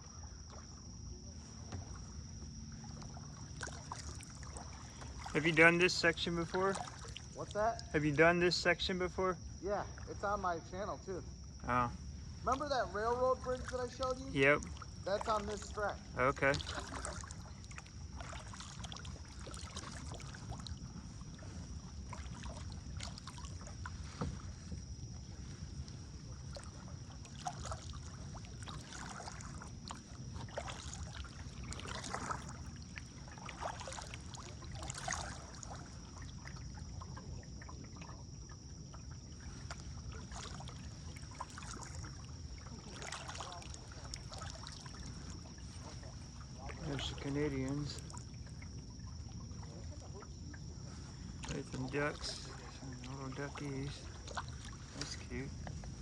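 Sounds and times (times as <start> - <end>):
paddle strokes splashing in water: 0.0 - 56.0
rumble of moving water: 0.0 - 56.0.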